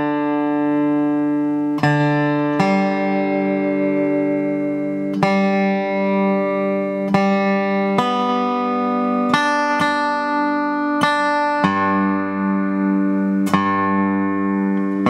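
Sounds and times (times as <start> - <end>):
resonator guitar picked notes: 0.0 - 15.0.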